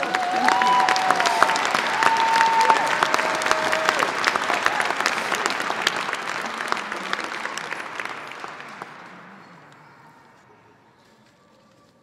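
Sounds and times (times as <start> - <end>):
crowd applauding: 0.0 - 10.5.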